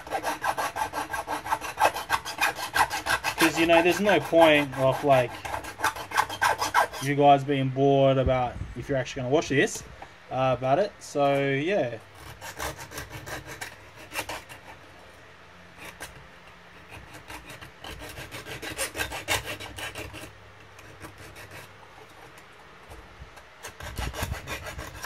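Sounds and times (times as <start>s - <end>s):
hand file scraping metal: 0.0s - 7.3s, 11.3s - 15.1s, 15.8s - 25.0s.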